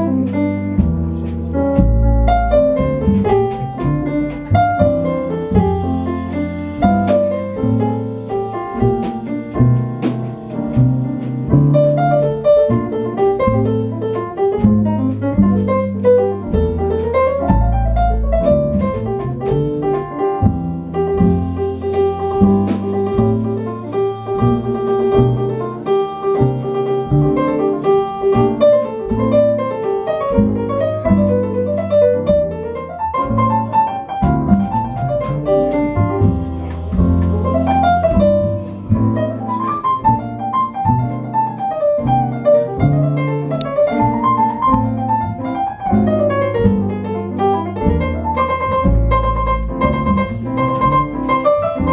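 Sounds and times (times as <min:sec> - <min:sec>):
double bass line: 0:00.0 - 0:51.9
jazz piano runs: 0:00.0 - 0:51.9.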